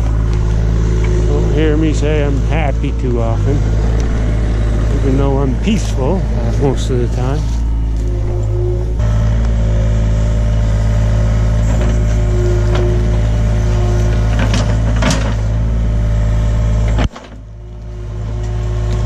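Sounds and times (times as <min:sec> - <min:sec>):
diesel engine running: 0:00.0 - 0:19.0
hydraulic whine: 0:00.0 - 0:19.0.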